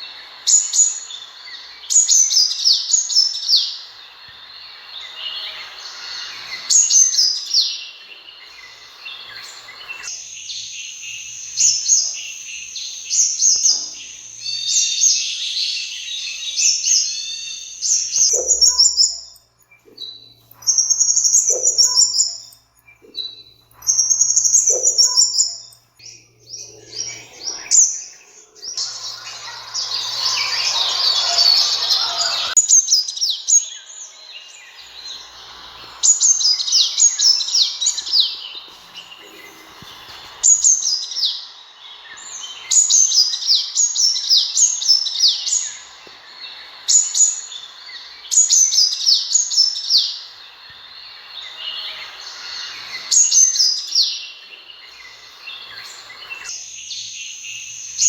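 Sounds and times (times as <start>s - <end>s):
background hiss: 0.0s - 58.0s
birds chirping and twittering: 0.0s - 58.0s.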